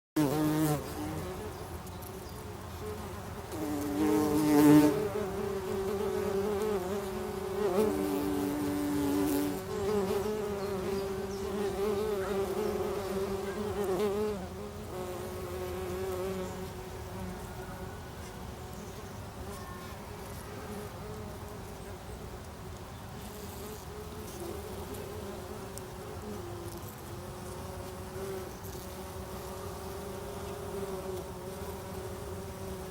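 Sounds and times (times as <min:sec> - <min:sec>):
bumblebees buzzing: 0:00.2 - 0:22.2, 0:23.1 - 0:32.9.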